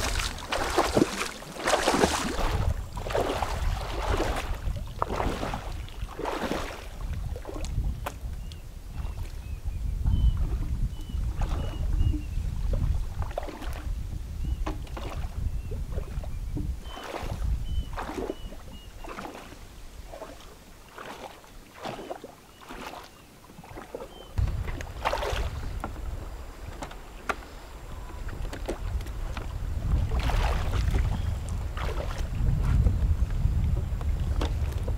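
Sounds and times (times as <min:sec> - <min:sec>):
wind rumbling on microphone: 0:00.0 - 0:20.6, 0:23.7 - 0:34.9
water splashing and sloshing: 0:00.0 - 0:34.9.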